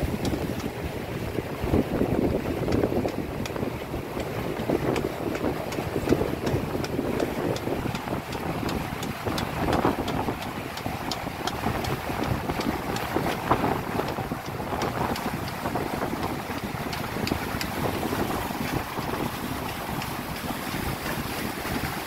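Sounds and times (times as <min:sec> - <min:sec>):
water rushing along boat hulls: 0:00.0 - 0:22.0
wind buffeting microphone: 0:00.0 - 0:22.0.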